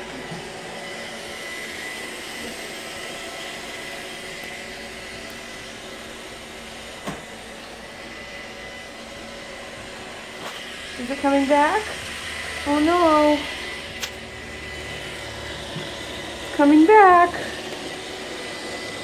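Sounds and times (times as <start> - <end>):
robot vacuum humming: 0.0 - 19.0.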